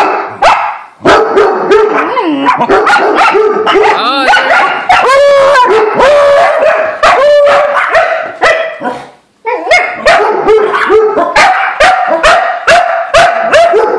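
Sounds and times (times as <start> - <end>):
dogs barking: 0.0 - 13.9.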